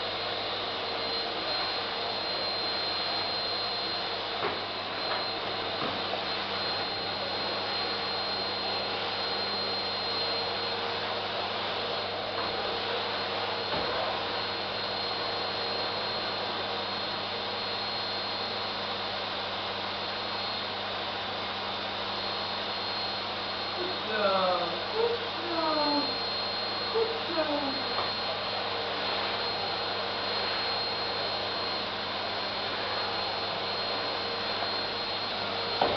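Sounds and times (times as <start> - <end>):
vacuum cleaner running: 0.0 - 35.9.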